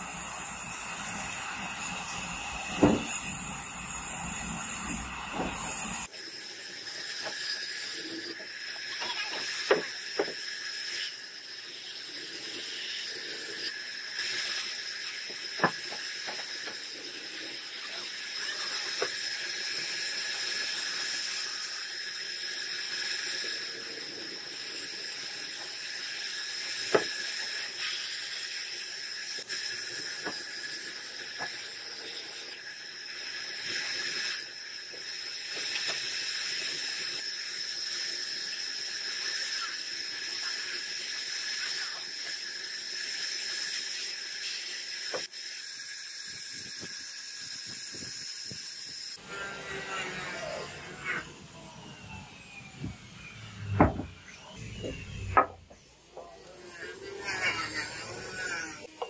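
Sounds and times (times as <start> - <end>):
band saw cutting wood: 0.0 - 37.4, 47.9 - 59.0.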